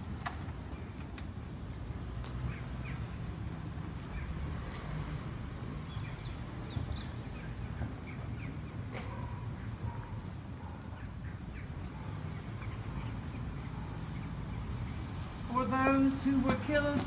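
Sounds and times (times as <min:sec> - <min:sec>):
small birds chirping: 0:02.4 - 0:17.0.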